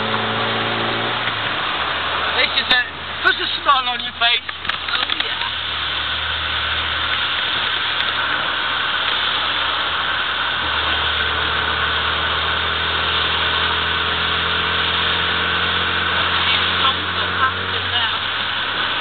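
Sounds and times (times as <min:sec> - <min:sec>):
car engine running: 0:00.0 - 0:19.0
tyres hissing on wet tarmac: 0:00.0 - 0:19.0.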